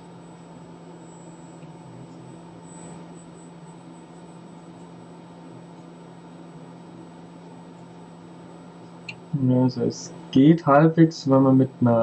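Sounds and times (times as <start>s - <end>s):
hot air station humming and hissing: 0.0s - 12.0s.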